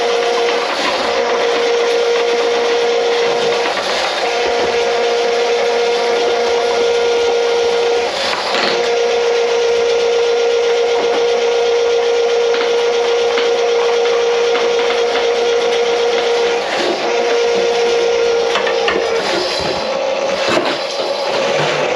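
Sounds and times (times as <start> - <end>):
machine motor grinding: 0.0 - 21.9.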